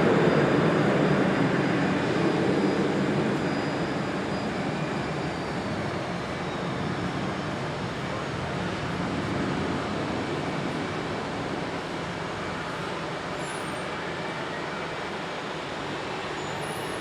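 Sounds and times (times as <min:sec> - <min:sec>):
faint high whine: 0:00.0 - 0:17.0
jet engines roaring: 0:00.0 - 0:17.0.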